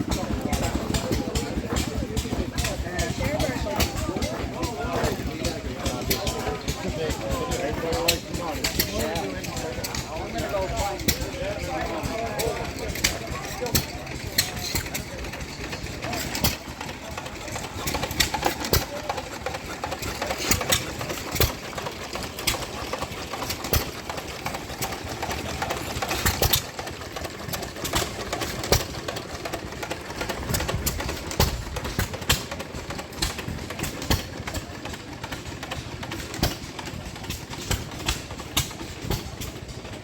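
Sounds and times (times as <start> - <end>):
steady mechanical din: 0.0 - 40.0.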